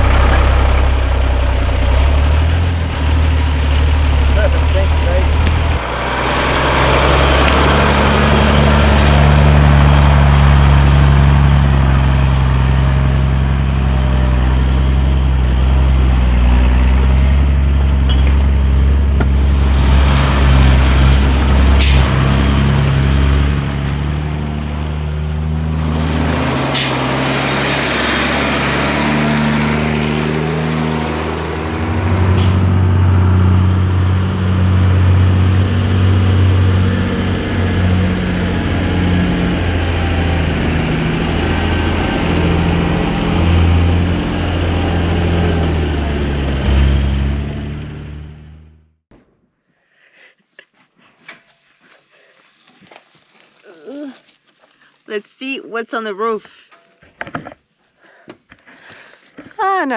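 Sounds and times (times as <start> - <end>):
truck diesel engine under load: 0.0 - 49.0.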